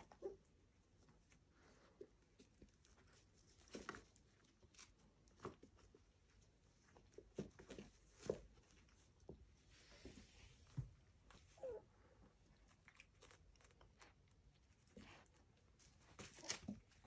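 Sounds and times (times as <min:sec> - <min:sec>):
puppies moving in fabric bed: 0:00.0 - 0:17.0.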